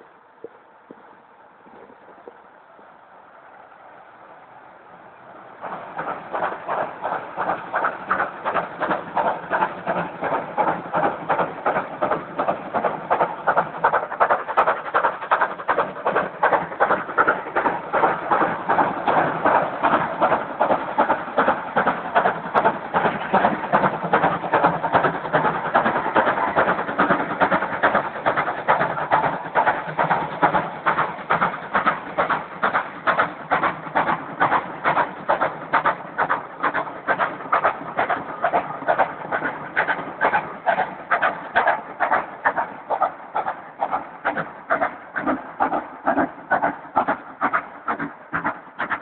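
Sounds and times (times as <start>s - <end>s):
steam locomotive exhaust chuffs: 0.0s - 49.0s.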